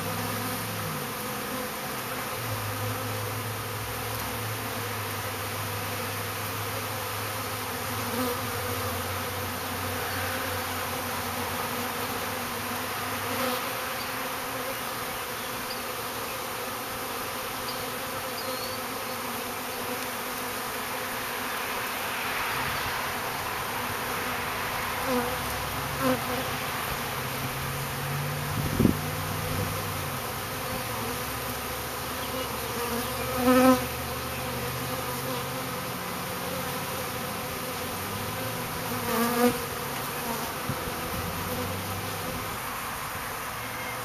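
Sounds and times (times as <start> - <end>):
honey bees buzzing: 0.0 - 44.0.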